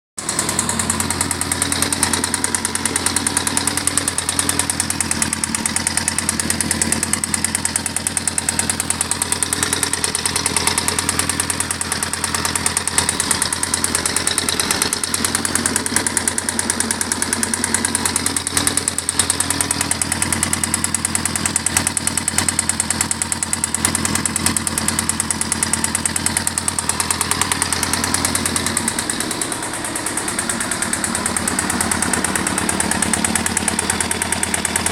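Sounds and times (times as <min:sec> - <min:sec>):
engine idling with rapid knock: 0:00.2 - 0:34.9.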